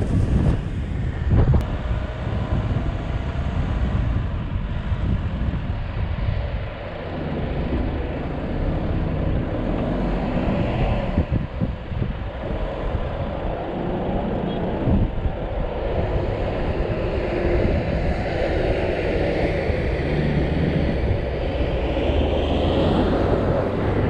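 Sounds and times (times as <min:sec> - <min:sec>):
off-road vehicle engine rumbling: 0:00.0 - 0:24.0
wind noise on microphone: 0:00.0 - 0:24.0.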